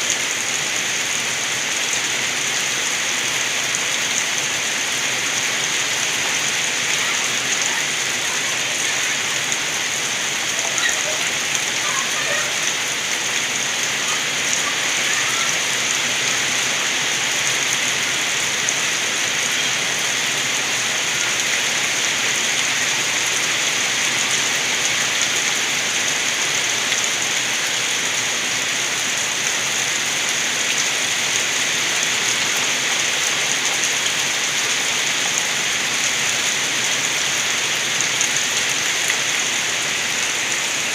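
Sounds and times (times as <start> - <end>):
heavy rain falling: 0.0 - 40.9
rainwater gurgling: 0.0 - 40.9.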